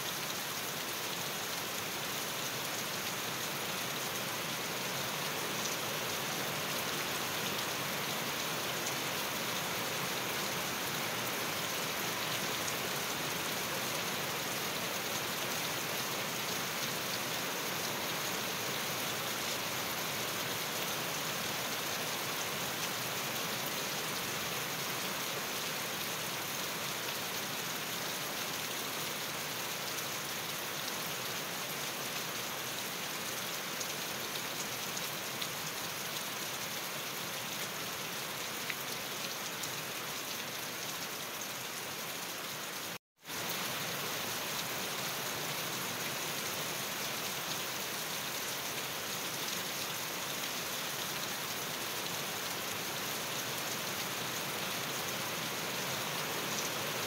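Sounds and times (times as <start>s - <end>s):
rain on leaves and lawn: 0.0s - 57.0s.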